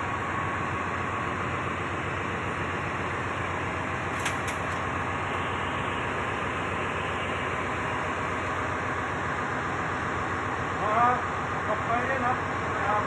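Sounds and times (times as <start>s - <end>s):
engine room machinery rumble: 0.0s - 13.0s.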